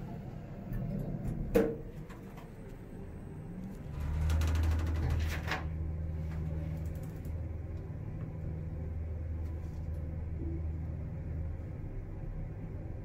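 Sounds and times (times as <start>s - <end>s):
elevator hum and rumble: 0.0s - 13.0s.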